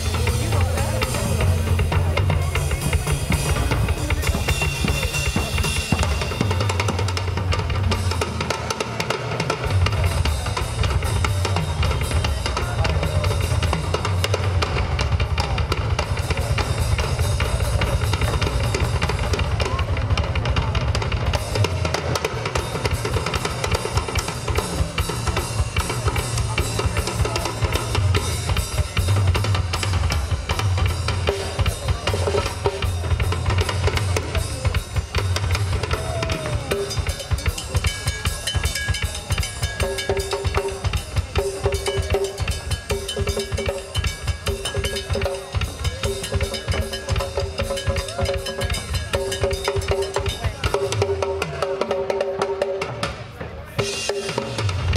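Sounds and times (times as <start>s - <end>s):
fast drum solo: 0.0s - 54.9s.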